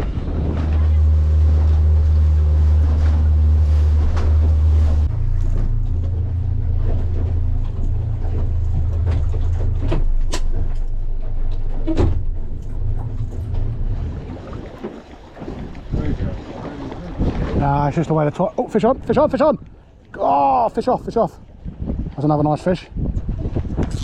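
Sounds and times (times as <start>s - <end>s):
boat engine humming: 0.0s - 21.7s.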